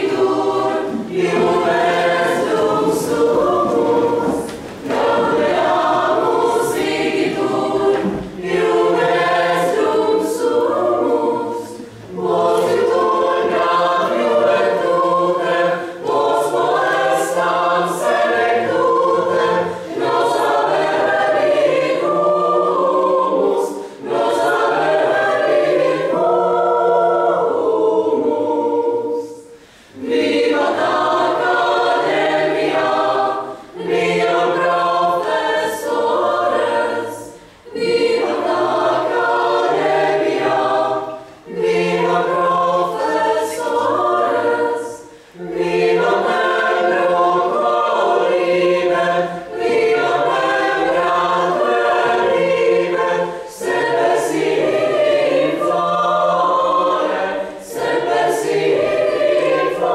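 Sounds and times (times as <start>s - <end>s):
choir singing slow song: 0.0s - 59.9s.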